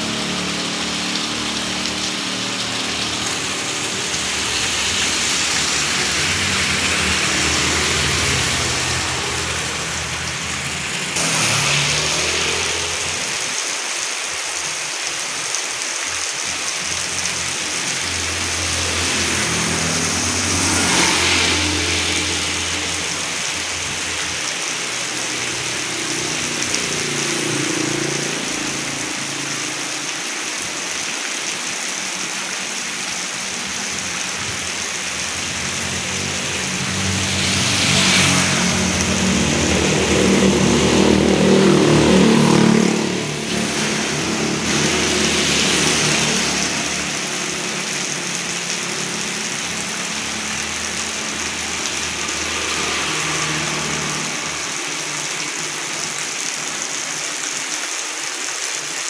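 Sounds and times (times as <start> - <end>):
heavy rain hissing: 0.0 - 59.0
scooters passing on wet road: 0.0 - 59.0
water pouring from gutter: 0.0 - 59.0.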